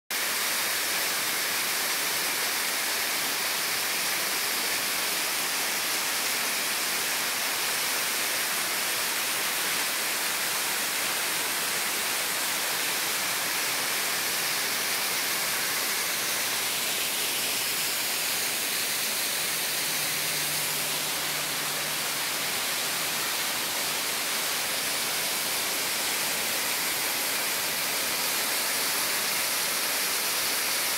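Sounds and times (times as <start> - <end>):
small waterfall splashing: 0.1 - 30.9.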